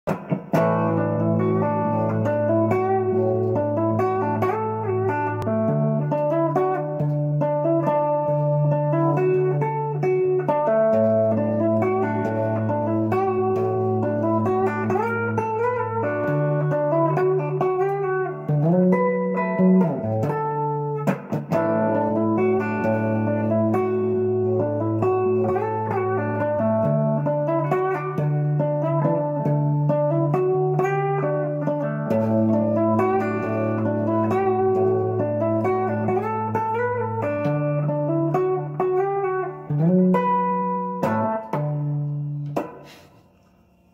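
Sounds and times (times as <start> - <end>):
electric guitar melody: 0.0 - 43.6.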